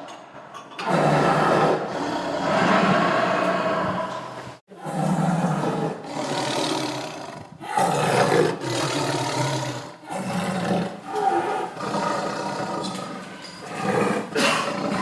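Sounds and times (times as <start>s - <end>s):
tiger roaring: 0.8s - 15.0s.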